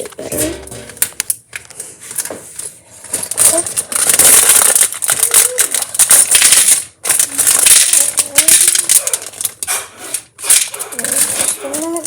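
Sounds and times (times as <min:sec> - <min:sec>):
plastic pieces clattering on metal tray: 0:00.0 - 0:12.0.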